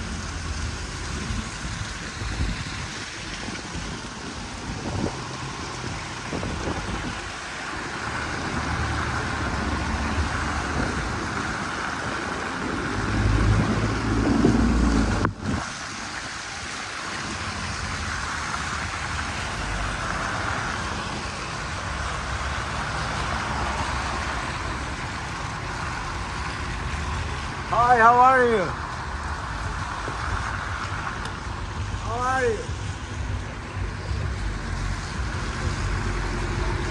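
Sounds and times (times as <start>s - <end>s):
vehicle passing with low rumble: 0.0s - 15.6s, 17.4s - 36.9s
vehicles hissing on wet roads: 0.0s - 36.9s.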